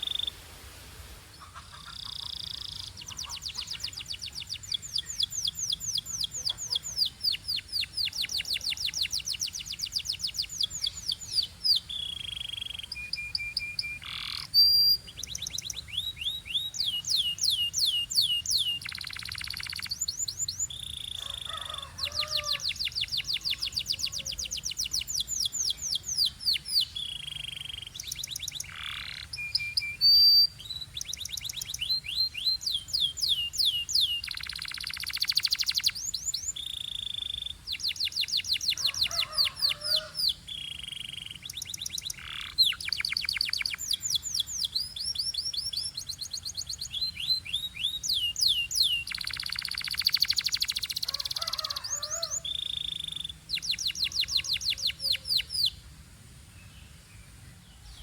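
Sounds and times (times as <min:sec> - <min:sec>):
canary singing: 0:00.0 - 0:00.3, 0:01.4 - 0:55.8.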